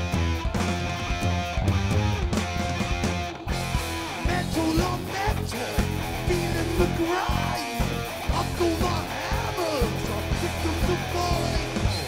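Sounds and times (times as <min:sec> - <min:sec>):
bass guitar: 0:00.0 - 0:12.0
distorted electric guitar: 0:00.0 - 0:12.0.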